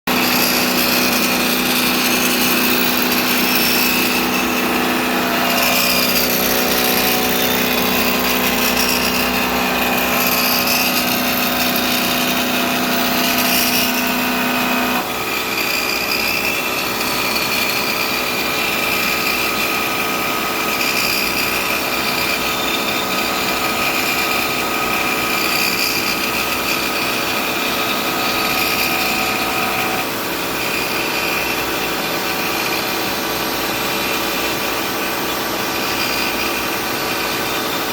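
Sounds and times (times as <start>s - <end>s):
machine tool whining: 0.1s - 37.9s
rough cutting noise: 0.1s - 37.9s.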